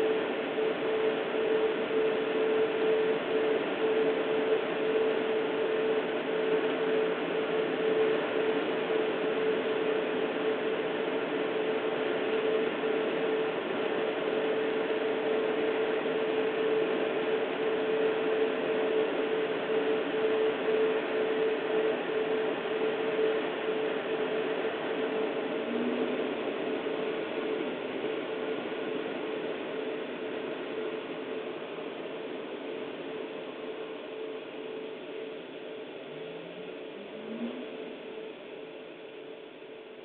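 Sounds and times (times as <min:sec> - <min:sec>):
constant hum: 0:00.0 - 0:40.0.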